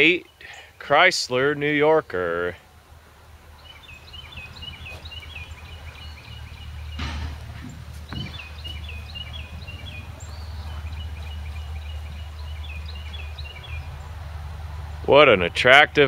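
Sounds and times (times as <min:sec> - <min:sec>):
songbird chirping: 0:00.0 - 0:15.6
low steady rumble: 0:02.5 - 0:16.0.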